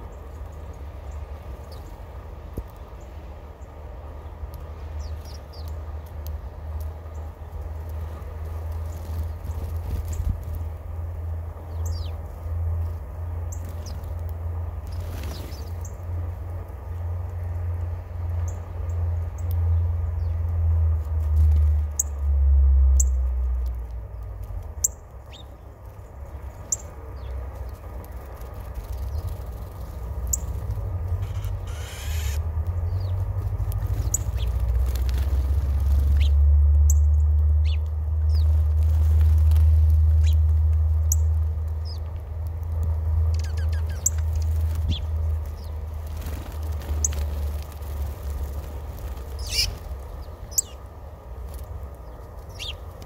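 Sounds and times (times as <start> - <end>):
small birds chirping: 0.0 - 10.8, 11.6 - 16.2, 18.2 - 20.5, 23.0 - 42.3, 43.2 - 53.0.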